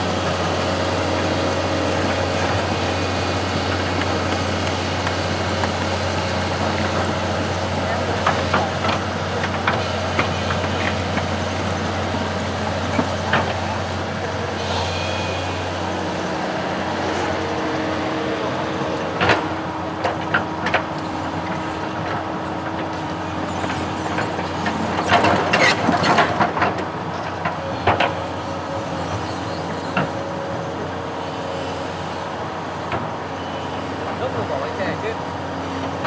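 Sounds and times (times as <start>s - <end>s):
construction machine engine running: 0.0s - 36.0s.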